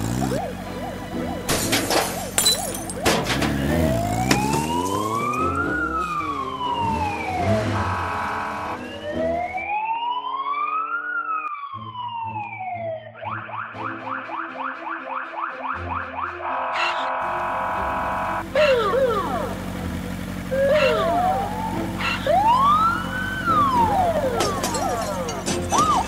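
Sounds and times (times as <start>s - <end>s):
vehicle engine: 0.0s - 12.1s, 17.1s - 26.0s
police siren wailing: 0.0s - 26.0s.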